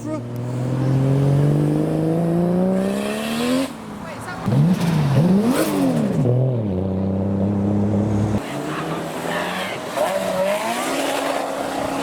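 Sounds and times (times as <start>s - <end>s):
car engine revving: 0.0s - 3.8s, 4.4s - 12.0s.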